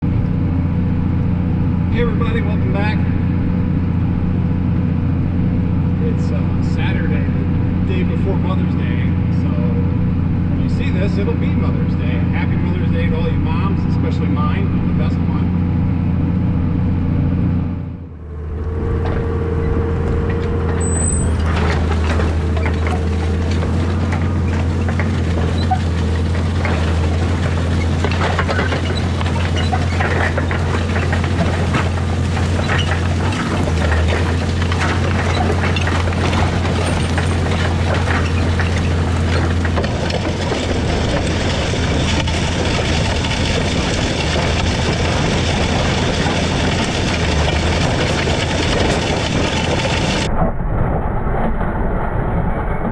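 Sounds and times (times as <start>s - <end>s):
tractor engine running: 0.0s - 51.4s.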